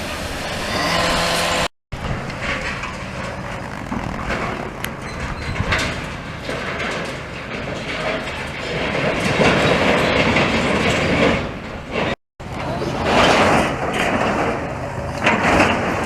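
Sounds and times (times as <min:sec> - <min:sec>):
diesel engine droning: 0:00.0 - 0:16.0
metal and rubble clanking: 0:00.1 - 0:16.0.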